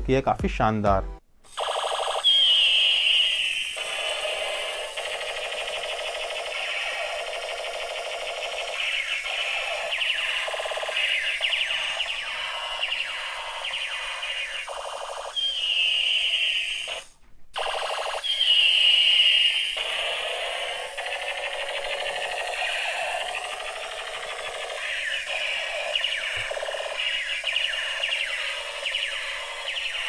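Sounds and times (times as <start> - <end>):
falling laser sweeps: 1.5 - 30.0
toy gun warbling alarm tones: 1.5 - 30.0.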